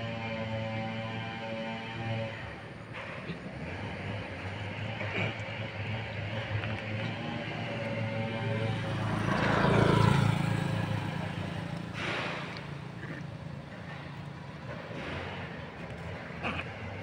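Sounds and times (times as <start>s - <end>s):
motorbike passing: 0.0s - 17.0s.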